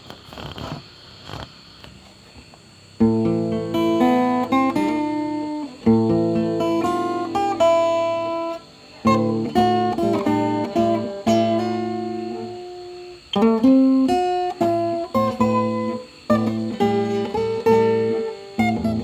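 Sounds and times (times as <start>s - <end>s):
acoustic guitar strumming chords: 3.0s - 19.0s.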